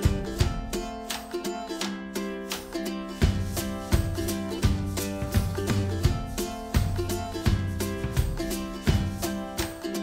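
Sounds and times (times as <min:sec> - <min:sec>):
plucked string music with bass beat: 0:00.0 - 0:10.0.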